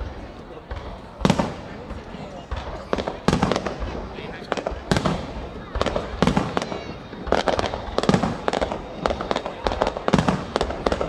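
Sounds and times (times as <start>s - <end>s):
fireworks bursting with bangs: 0.0s - 11.0s.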